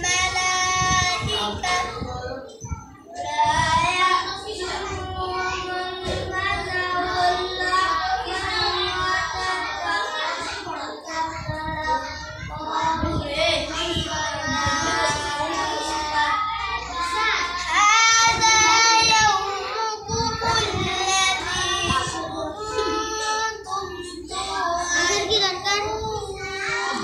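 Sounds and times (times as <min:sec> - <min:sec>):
boy chanting recitation: 0:00.0 - 0:27.0.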